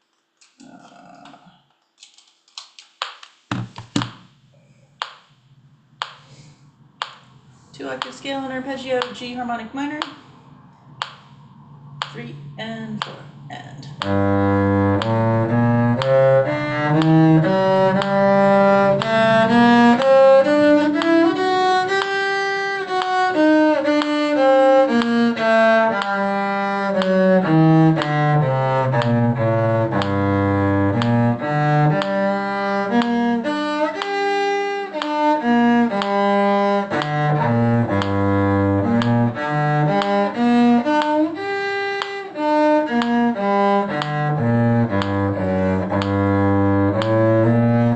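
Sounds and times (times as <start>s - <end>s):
cello playing bowed scale: 7.0s - 47.9s.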